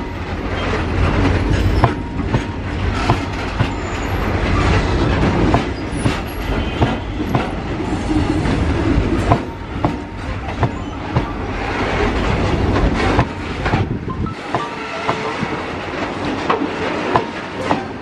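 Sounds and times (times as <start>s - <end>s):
train wheels rumbling on rail: 0.0s - 18.0s
wheels clanking over rail joints: 0.0s - 18.0s.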